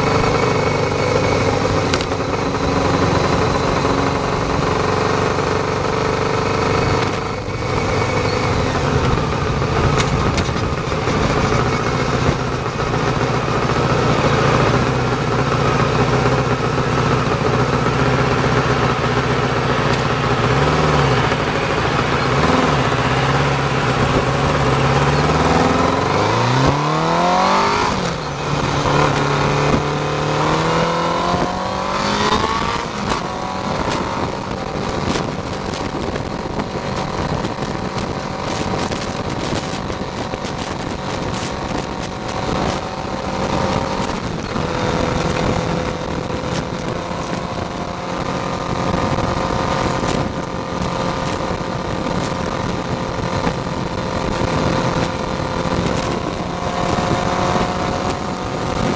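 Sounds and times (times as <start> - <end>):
motorcycle engine accelerating: 0.0 - 58.9
wind and road noise: 0.0 - 58.9.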